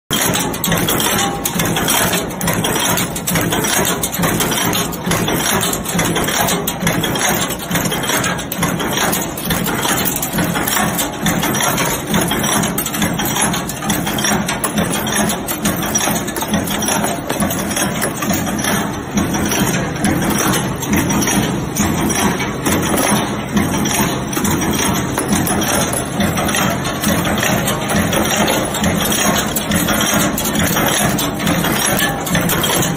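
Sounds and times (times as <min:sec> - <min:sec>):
screw-making machine clattering: 0:00.1 - 0:32.9.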